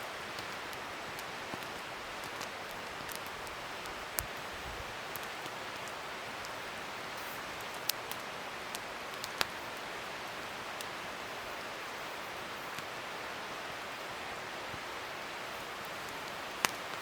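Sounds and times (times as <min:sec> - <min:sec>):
wood fire hissing and crackling: 0:00.0 - 0:17.0.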